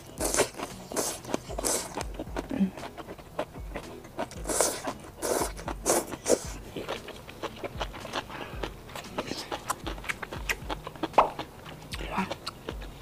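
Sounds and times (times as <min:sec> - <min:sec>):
slurping and sucking: 0:00.0 - 0:13.0
wet chewing with clicks: 0:00.0 - 0:13.0.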